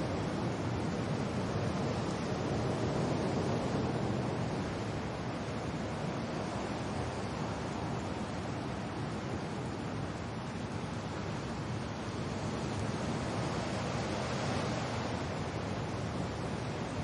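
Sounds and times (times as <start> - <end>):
rain with wind: 0.0 - 17.0.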